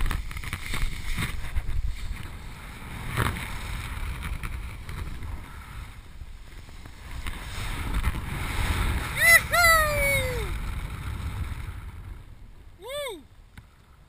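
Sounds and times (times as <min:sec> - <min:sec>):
wind rushing over microphone: 0:00.0 - 0:13.6.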